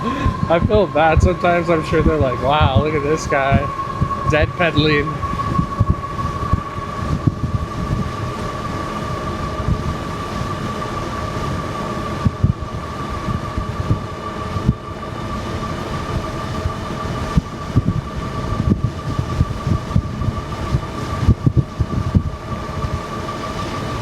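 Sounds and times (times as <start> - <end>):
electric bike motor whine: 0.0 - 24.0
wind buffeting microphone: 0.0 - 24.0.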